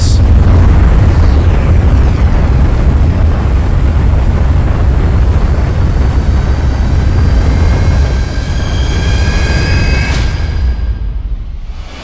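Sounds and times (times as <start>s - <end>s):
wind buffeting microphone: 0.0s - 11.5s
turboprop engine noise: 0.0s - 12.0s
wind rush: 0.0s - 12.0s.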